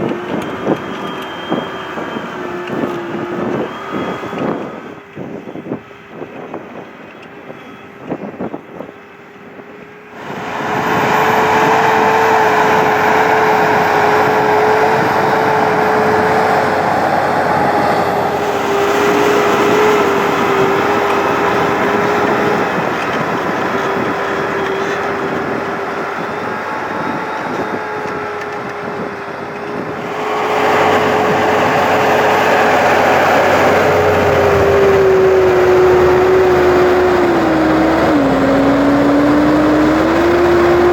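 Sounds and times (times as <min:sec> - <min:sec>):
steady whine: 0:00.0 - 0:40.9
tractor diesel engine under load: 0:00.0 - 0:40.9.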